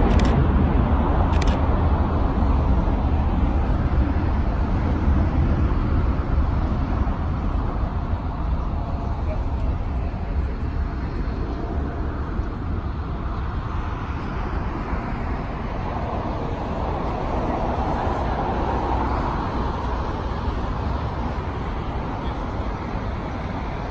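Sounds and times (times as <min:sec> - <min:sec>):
jet engines rumbling: 0:00.0 - 0:23.9
road traffic: 0:00.0 - 0:23.9.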